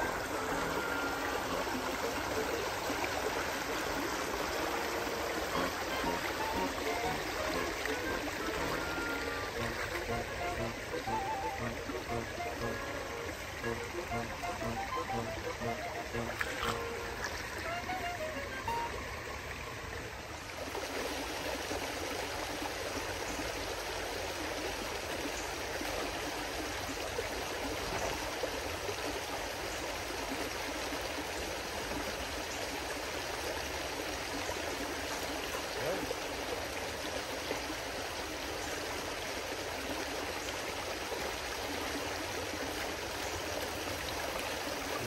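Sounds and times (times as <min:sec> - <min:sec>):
creek water running over rocks: 0:00.0 - 0:45.0.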